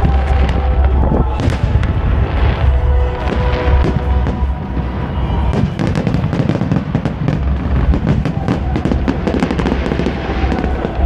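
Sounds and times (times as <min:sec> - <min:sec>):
fireworks bangs and crackles: 0:00.0 - 0:11.0
low fireworks booms: 0:00.0 - 0:11.0.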